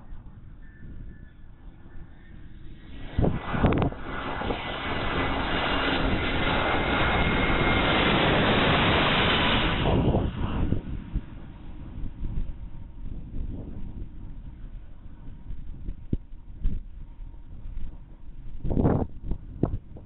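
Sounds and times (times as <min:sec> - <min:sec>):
airliner engines roaring: 0:00.0 - 0:20.0
wind thumping on microphone: 0:00.0 - 0:20.0.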